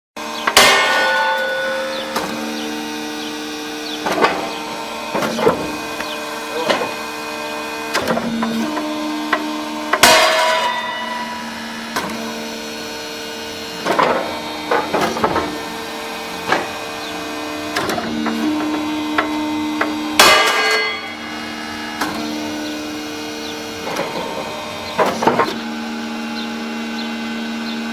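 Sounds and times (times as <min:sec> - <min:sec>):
hydraulic press humming: 0:00.2 - 0:27.9
rail snapping with loud crack: 0:00.4 - 0:03.0, 0:04.0 - 0:25.6
steel rail clanking: 0:00.4 - 0:25.6.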